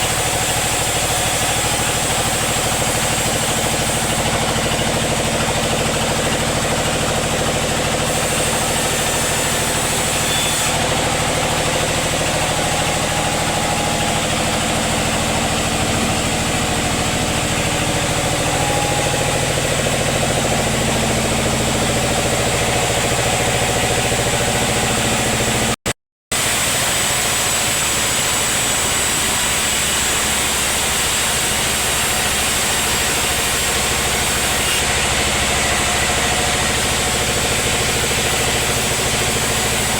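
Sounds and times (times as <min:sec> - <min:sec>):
sawmill machinery motor drone: 0:00.0 - 0:39.9.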